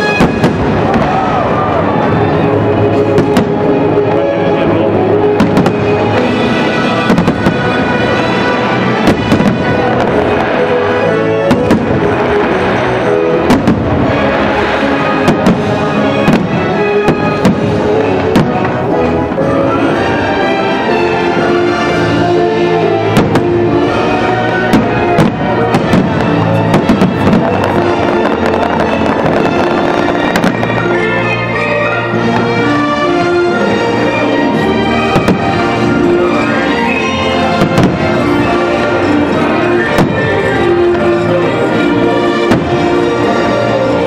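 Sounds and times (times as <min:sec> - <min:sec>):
fireworks show music: 0:00.0 - 0:44.0.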